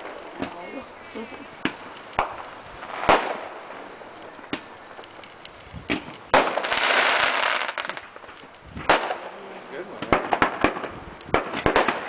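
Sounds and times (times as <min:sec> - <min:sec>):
firework crackle: 0:00.0 - 0:12.0
firework bangs: 0:01.5 - 0:05.2, 0:05.8 - 0:12.0.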